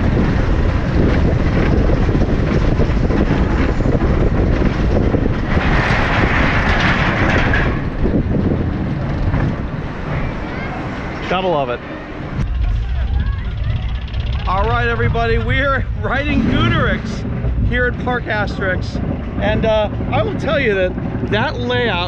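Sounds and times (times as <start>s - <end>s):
coaster wheels rumbling and rattling: 0.0s - 22.0s.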